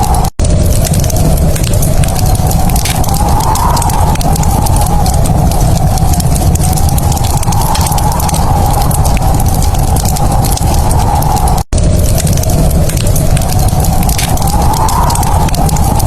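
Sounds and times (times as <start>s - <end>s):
low rumble: 0.0s - 16.0s
wood fire crackling and popping: 0.0s - 16.0s.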